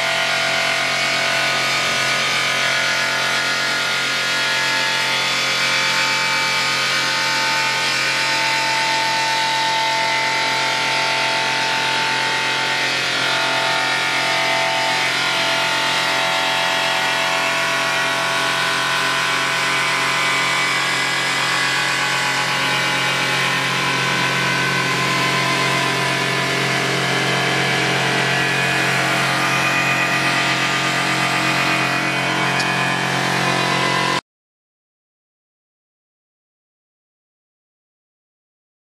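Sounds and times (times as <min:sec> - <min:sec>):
belt grinder grinding metal: 0:00.0 - 0:34.2.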